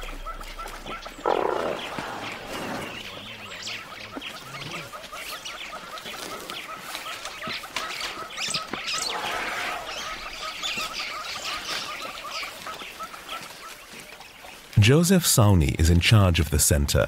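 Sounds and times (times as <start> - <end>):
higher bird chirps: 0.0 - 14.8.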